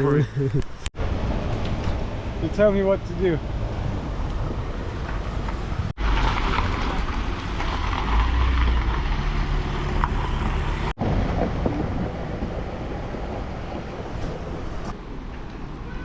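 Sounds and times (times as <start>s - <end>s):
vehicle engine hum: 0.0s - 15.8s
road and wind noise: 0.0s - 16.0s.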